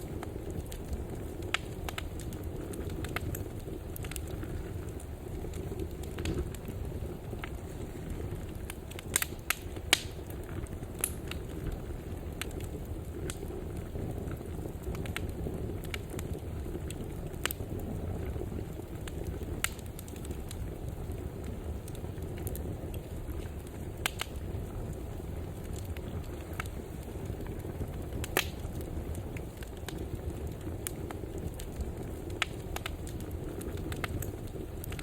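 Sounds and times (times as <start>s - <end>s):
wood fire burning: 0.0s - 35.0s.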